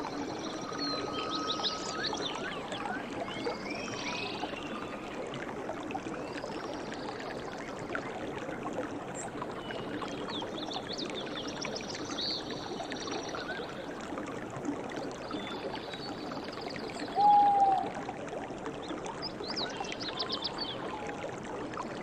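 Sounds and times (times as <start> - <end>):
stream water splashing: 0.0 - 22.0.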